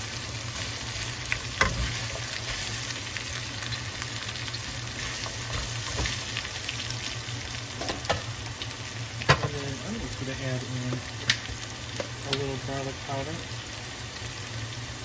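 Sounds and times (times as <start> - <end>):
vegetables sizzling in a skillet: 0.0 - 15.0.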